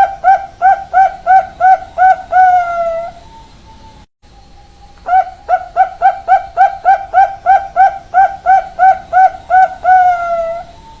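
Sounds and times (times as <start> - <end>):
dove cooing: 0.0 - 3.2, 5.1 - 10.8.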